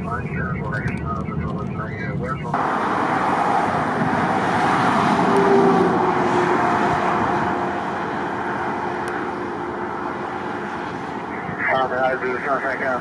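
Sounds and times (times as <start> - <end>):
faint engine hum: 0.0 - 13.0
road traffic rushing: 0.0 - 13.0.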